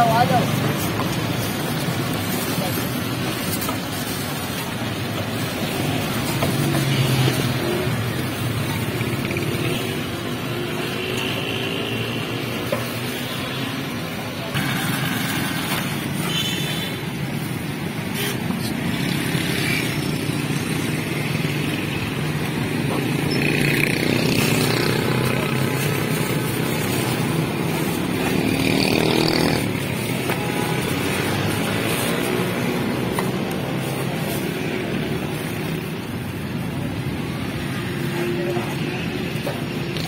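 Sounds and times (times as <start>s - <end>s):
vehicles passing: 0.0s - 40.0s
motorcycle engines running: 3.3s - 16.1s, 18.7s - 40.0s.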